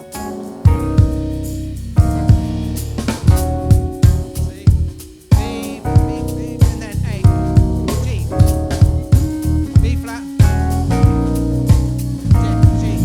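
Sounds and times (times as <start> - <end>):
drum kit: 0.0 - 13.0
electric keyboard chords: 0.0 - 13.0
guitar: 0.0 - 13.0
bass guitar: 0.7 - 5.1, 5.8 - 13.0.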